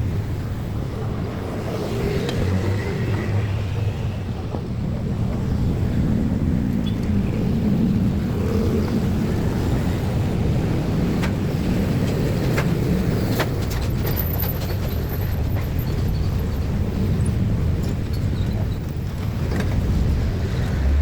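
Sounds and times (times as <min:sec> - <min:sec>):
vehicles rumbling past: 0:00.0 - 0:21.0.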